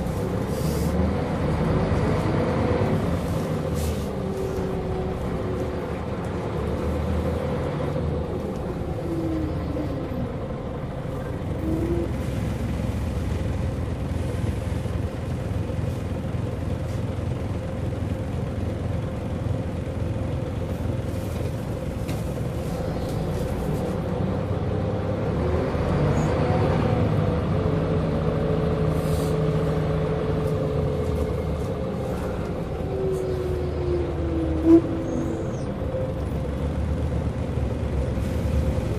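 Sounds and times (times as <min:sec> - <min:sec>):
bus engine and gearbox whine: 0:00.0 - 0:38.9.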